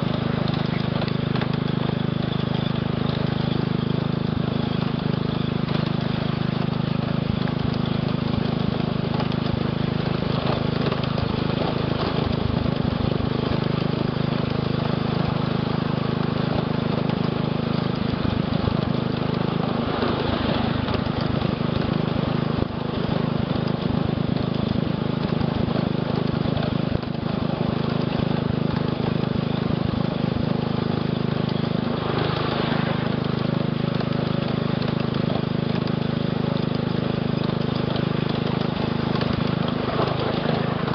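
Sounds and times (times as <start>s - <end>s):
small locomotive engine running: 0.0s - 40.9s.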